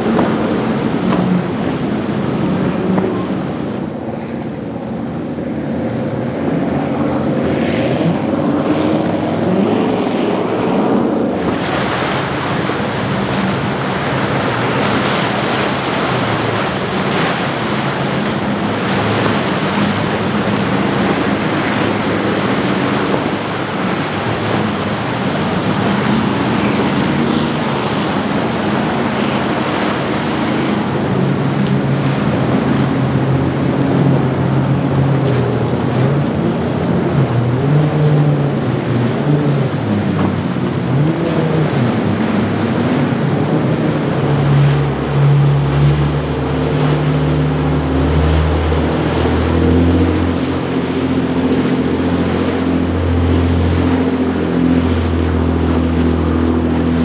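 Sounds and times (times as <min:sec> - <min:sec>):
boat engine drone: 0:00.0 - 0:57.0
waves and spray rushing: 0:00.0 - 0:57.0.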